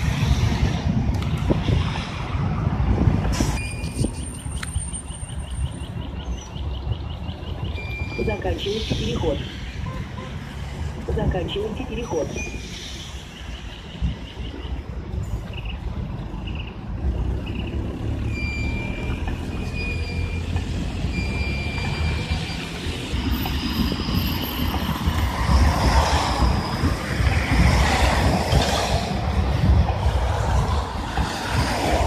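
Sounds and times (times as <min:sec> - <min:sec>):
tram passing on rails: 0:00.0 - 0:32.0.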